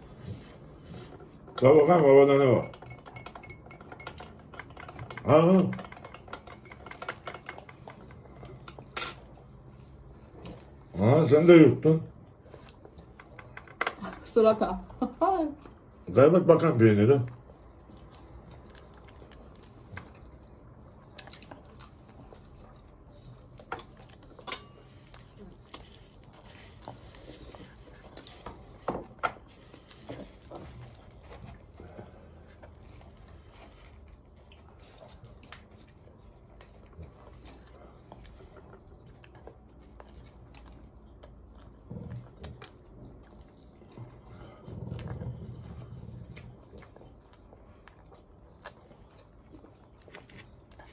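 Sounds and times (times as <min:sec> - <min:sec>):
man chewing food: 0:00.0 - 0:11.2, 0:11.8 - 0:14.1, 0:15.6 - 0:50.9.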